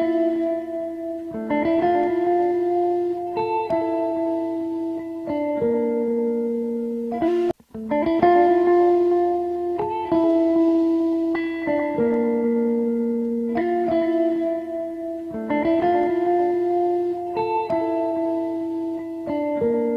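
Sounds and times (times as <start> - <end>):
slow plucked melody: 0.0 - 19.9.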